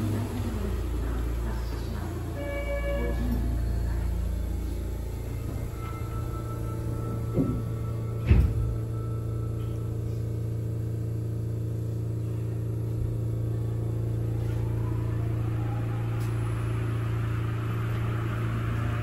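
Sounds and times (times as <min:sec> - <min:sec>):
subway train running in tunnel: 0:00.0 - 0:19.0.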